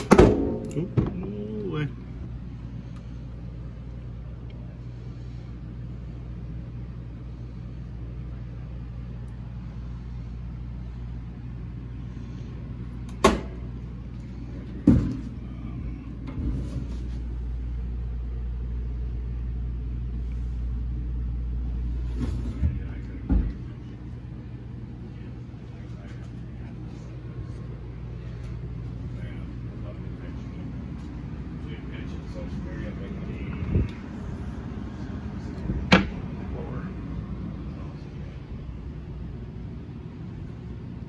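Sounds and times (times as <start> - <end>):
low mechanical machinery hum: 0.0 - 41.0.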